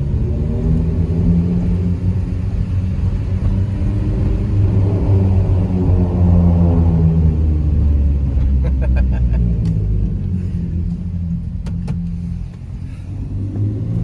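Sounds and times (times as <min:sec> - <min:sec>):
car exhaust droning: 0:00.0 - 0:14.0.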